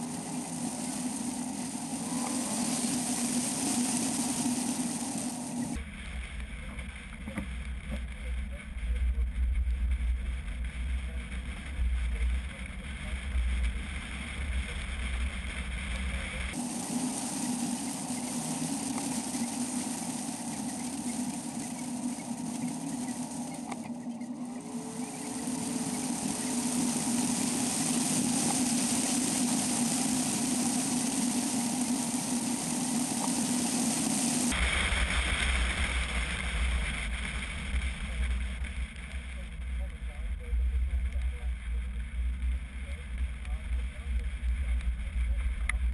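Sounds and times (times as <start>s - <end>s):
wind and road noise: 0.0s - 39.1s
car engine hum: 0.0s - 45.9s.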